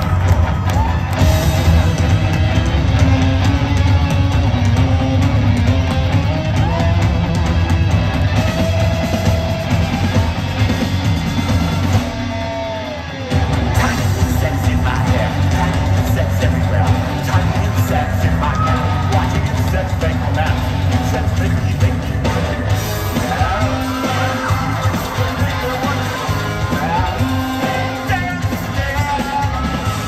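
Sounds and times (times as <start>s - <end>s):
heavy rock band playing: 0.0s - 30.0s.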